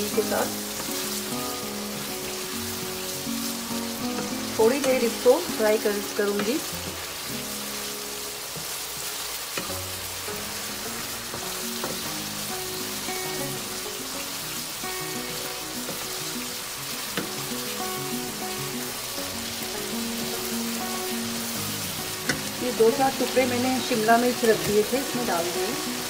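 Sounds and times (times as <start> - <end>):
masala sizzling in frying pan: 0.0 - 26.0
soft melody: 0.0 - 26.0.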